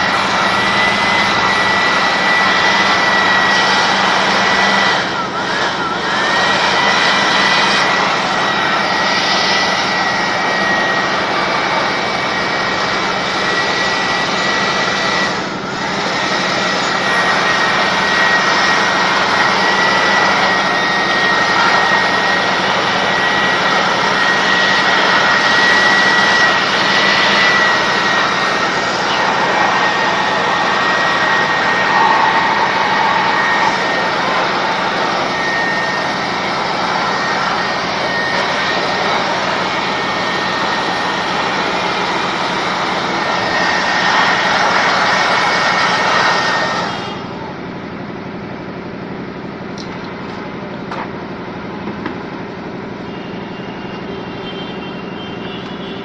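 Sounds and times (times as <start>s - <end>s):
electric air blower whining: 0.0s - 56.0s.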